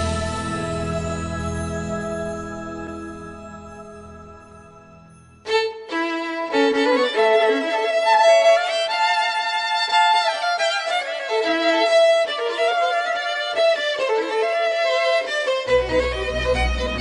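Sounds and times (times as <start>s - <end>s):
background music with held notes: 0.0s - 17.0s.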